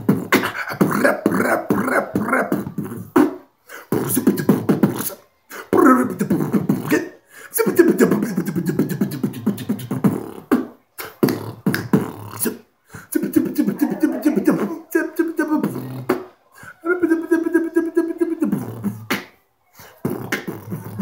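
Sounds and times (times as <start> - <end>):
beatboxing: 0.0 - 21.0.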